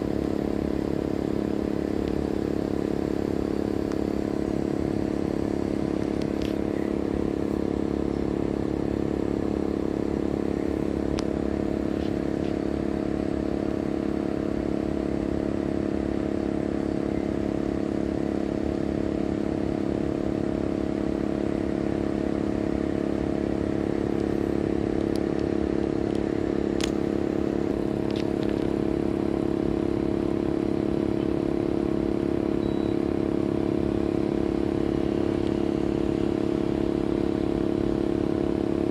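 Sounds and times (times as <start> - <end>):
air conditioner compressor humming: 0.0 - 38.9.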